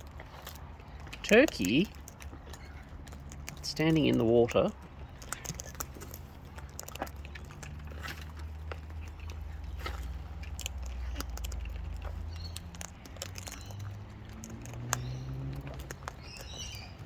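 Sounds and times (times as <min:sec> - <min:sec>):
birds pecking seed: 0:00.0 - 0:17.0.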